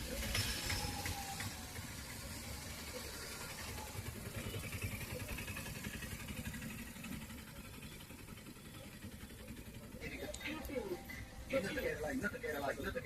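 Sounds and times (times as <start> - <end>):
street noise: 0.0 - 13.0
vehicle engine rumbling: 0.0 - 13.0.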